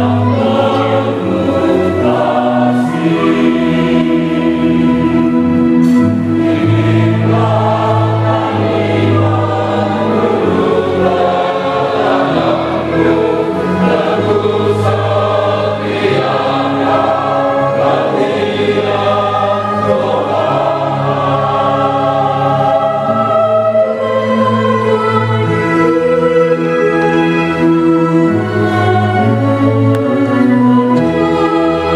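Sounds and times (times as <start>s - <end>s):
mixed choir singing a hymn: 0.0s - 31.9s.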